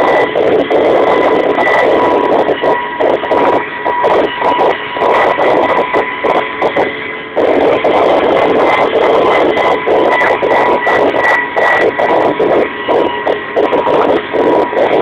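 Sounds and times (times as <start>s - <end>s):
helicopter engine and rotor din: 0.0s - 15.0s.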